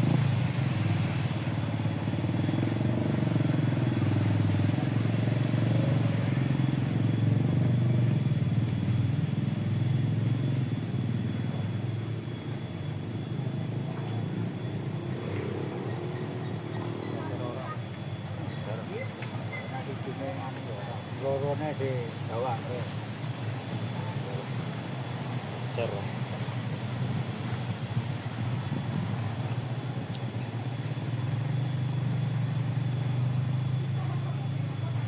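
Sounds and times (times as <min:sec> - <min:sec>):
small engine humming: 0:00.0 - 0:35.0.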